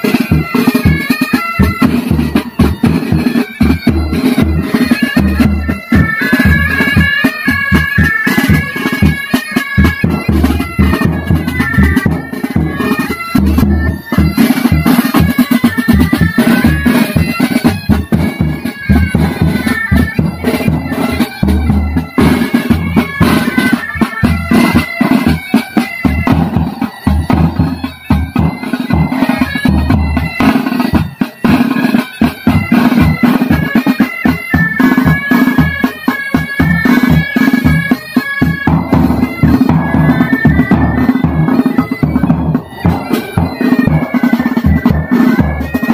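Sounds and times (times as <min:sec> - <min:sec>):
bagpipes playing melody: 0:00.0 - 0:45.9
side drums: 0:00.0 - 0:45.9.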